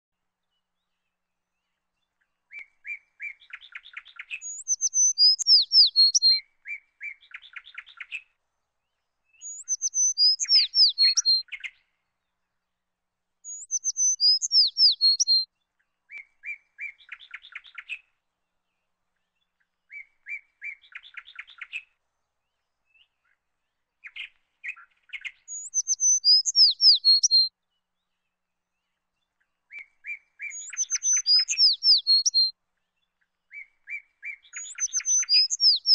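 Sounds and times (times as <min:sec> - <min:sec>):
songbird singing with trills: 0:00.4 - 0:12.3, 0:13.4 - 0:35.9.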